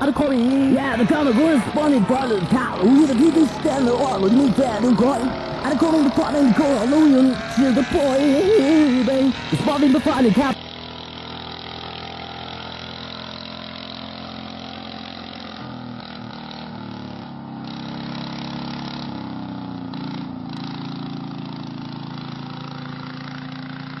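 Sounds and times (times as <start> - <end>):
machine engine running: 0.0 - 24.0.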